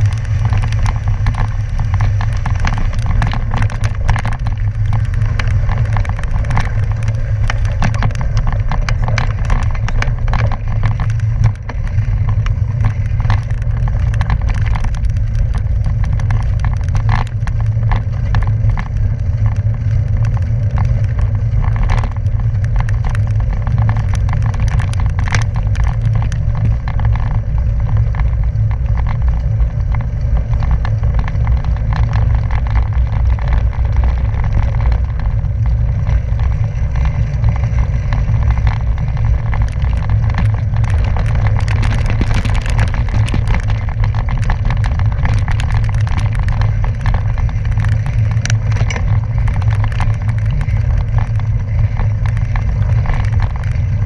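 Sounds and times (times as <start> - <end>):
bike rattle: 0.0 - 54.0
tyres on gravel crackle: 0.0 - 54.0
wind buffeting on microphone: 0.0 - 54.0.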